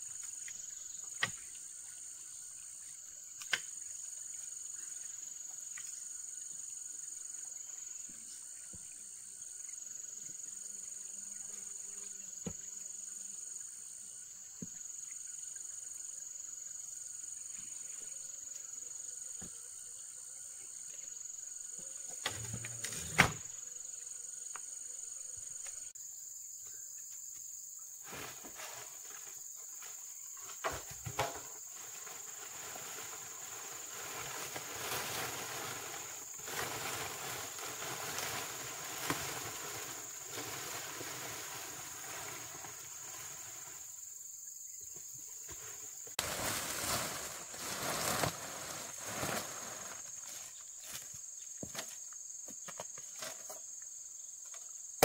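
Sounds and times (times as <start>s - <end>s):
faint pulsing insect layer: 0.0s - 55.0s
high-pitched insect chorus: 0.0s - 55.0s.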